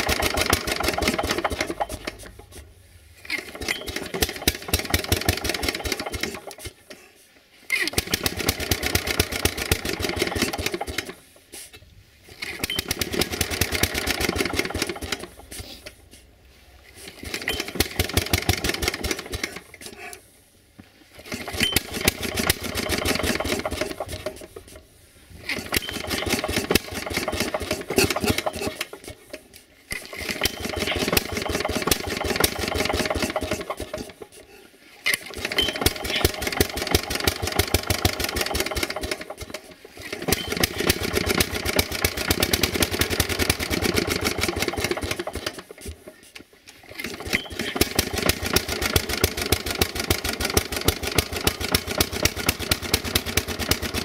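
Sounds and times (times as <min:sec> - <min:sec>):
mower engine running unevenly: 0:00.0 - 0:06.6, 0:07.7 - 0:11.2, 0:12.4 - 0:16.0, 0:17.0 - 0:20.1, 0:21.2 - 0:24.8, 0:25.4 - 0:34.3, 0:35.1 - 0:54.0.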